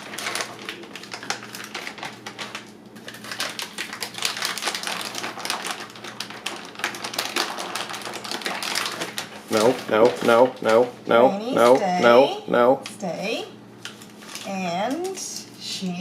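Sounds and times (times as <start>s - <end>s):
plastic packaging crinkling: 0.0s - 11.8s, 13.8s - 15.2s.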